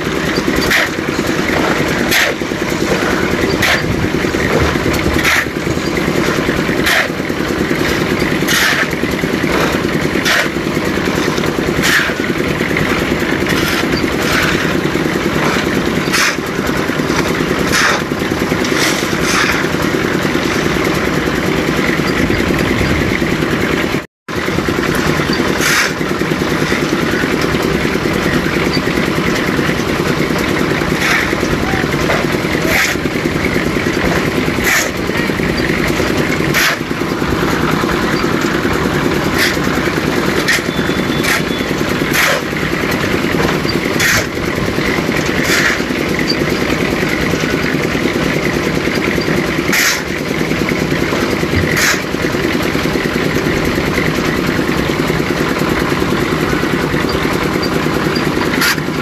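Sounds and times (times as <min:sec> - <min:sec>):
shovel scraping wet concrete: 0:00.0 - 0:23.0, 0:24.8 - 0:55.7, 0:56.3 - 0:59.0
concrete mixer engine running: 0:00.0 - 0:59.0.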